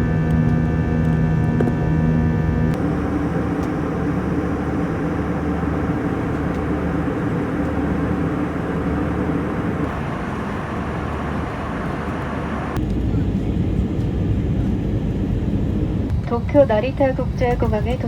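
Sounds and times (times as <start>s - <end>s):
jet engine cabin noise: 0.1s - 18.0s
low hum: 0.6s - 16.3s.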